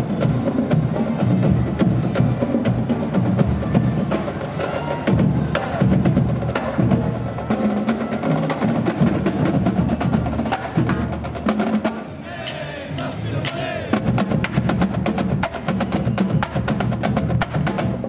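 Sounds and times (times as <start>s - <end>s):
drumline playing snare and tenor drums: 0.0s - 18.0s.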